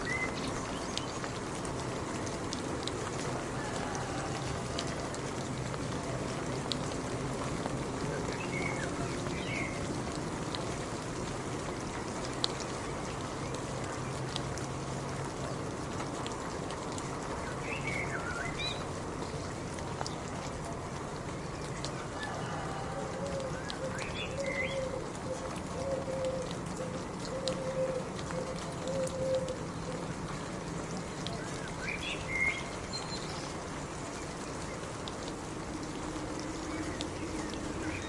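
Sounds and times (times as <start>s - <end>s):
raindrops ticking on a surface: 0.0s - 38.0s
steady rain falling: 0.0s - 38.0s.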